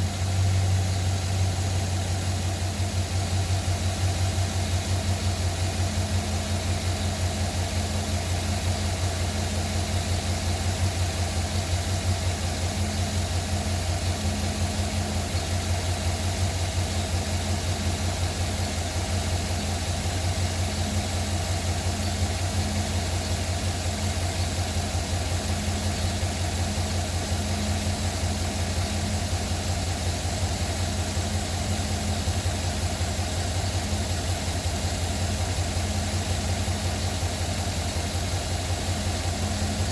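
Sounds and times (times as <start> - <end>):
engine knock: 0.0 - 39.9
truck engine idling: 0.0 - 39.9.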